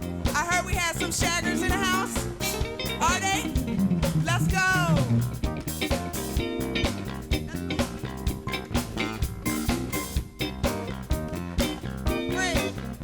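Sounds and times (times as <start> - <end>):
drum kit beat: 0.0 - 13.0
electric guitar: 0.0 - 13.0.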